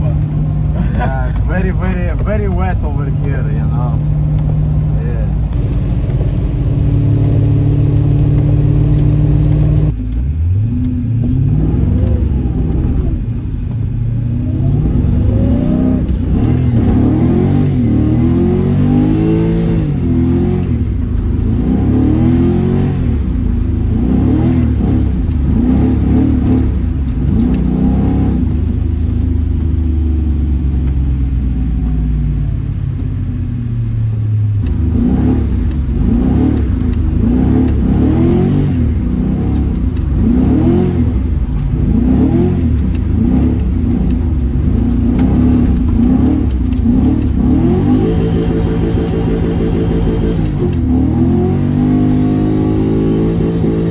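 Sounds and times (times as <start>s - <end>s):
car engine revving: 0.0s - 33.2s, 33.9s - 53.9s.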